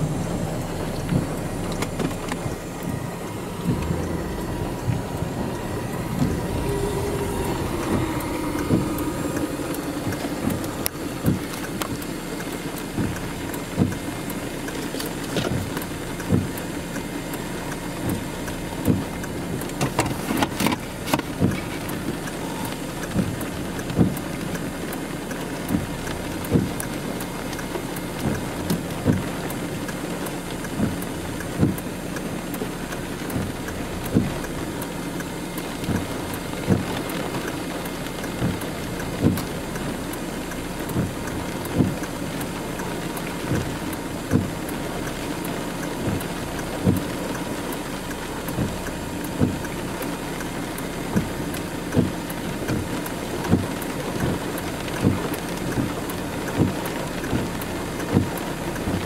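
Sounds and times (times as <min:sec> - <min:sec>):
rain hissing on vehicle: 0:00.0 - 0:59.0
windshield wipers thumping: 0:00.0 - 0:59.0.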